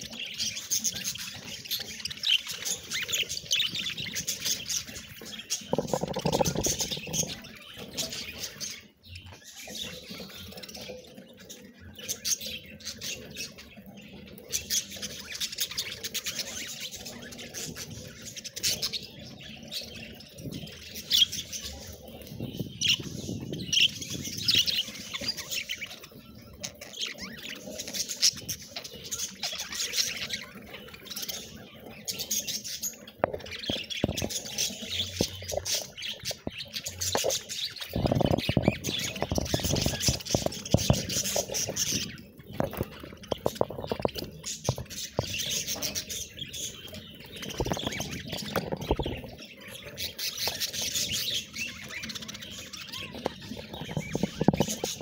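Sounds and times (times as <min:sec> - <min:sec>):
budgerigars chattering: 0:00.0 - 0:08.8, 0:12.0 - 0:55.0.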